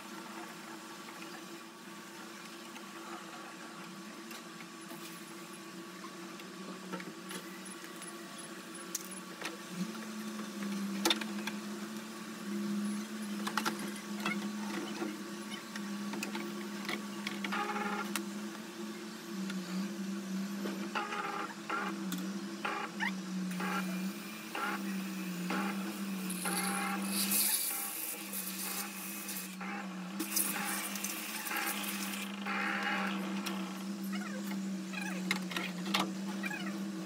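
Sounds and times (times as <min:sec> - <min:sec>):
low mechanical hum: 0:00.0 - 0:37.0
lower hum cutting in and out: 0:04.9 - 0:37.0.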